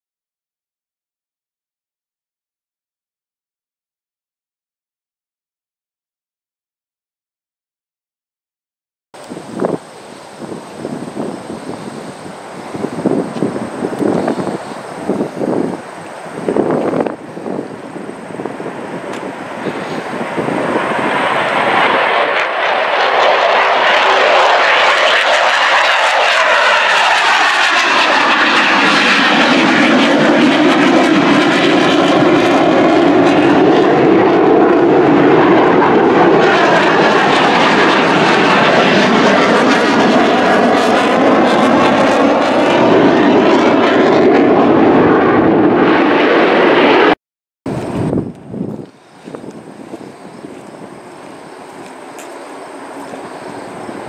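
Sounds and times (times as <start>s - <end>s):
fighter jet passing overhead: 9.2s - 54.0s.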